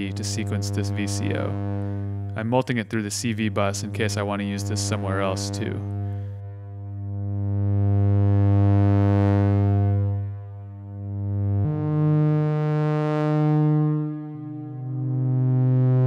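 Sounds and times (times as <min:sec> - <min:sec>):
synthesizer sawtooth drone: 0:00.0 - 0:16.0.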